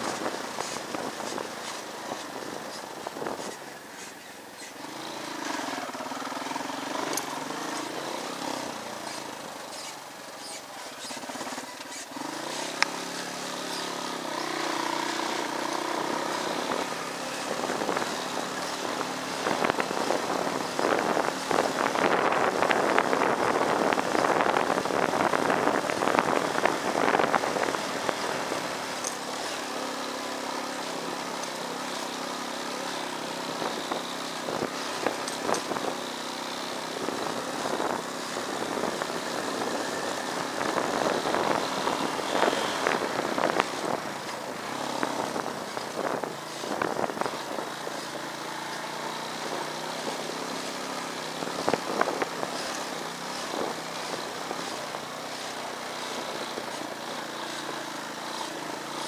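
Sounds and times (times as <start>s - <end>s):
small motorcycle engine running: 0.0s - 59.0s.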